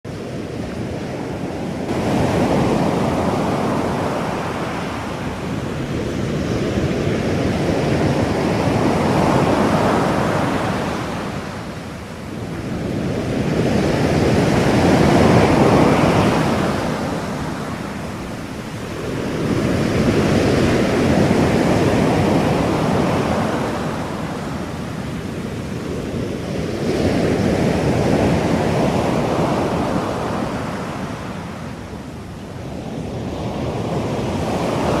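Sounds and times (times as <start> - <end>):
ocean waves washing in: 0.1 - 35.0.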